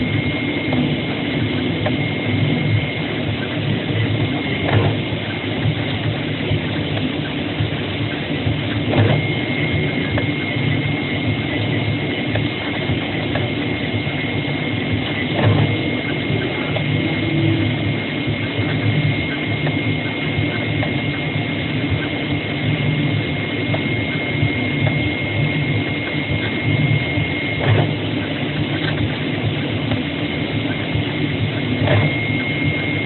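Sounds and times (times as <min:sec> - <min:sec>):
cutting plotter whirring: 0:00.0 - 0:33.0.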